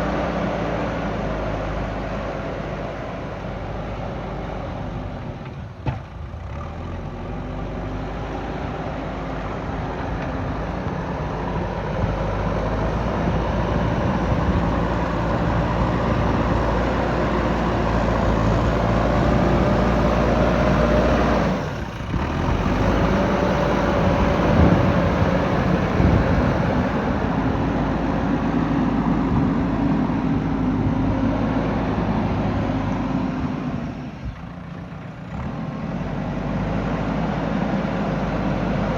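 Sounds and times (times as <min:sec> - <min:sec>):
diesel engine revving: 0:00.0 - 0:05.4, 0:06.2 - 0:38.9.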